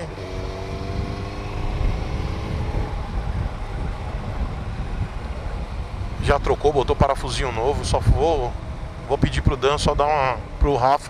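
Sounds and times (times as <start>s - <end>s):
motorcycle engine: 0.0s - 10.6s
wind and road noise rumble: 0.0s - 11.0s.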